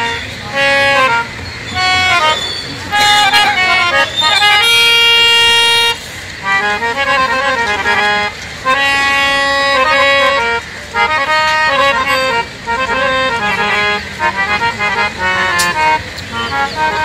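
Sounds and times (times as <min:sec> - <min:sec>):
harmonium playing a devotional tune: 0:00.0 - 0:17.0.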